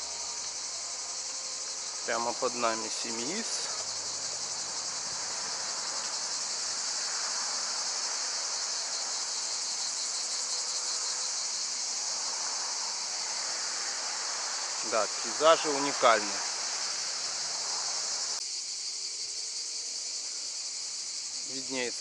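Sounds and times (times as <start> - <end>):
chorus of cicadas shrilling: 0.0 - 22.0.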